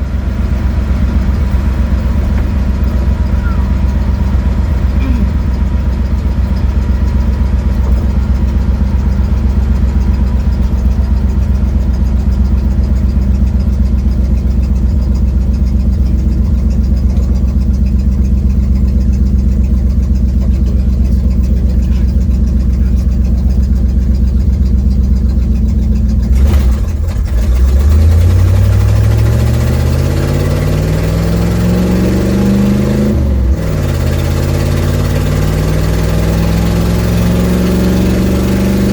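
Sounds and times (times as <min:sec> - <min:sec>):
car engine droning and accelerating: 0:00.0 - 0:38.9.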